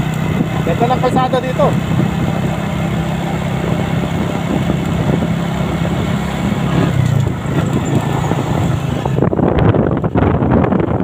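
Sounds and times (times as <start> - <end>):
motorcycle engine cruising: 0.0 - 11.0
wind and road noise hiss: 0.0 - 11.0.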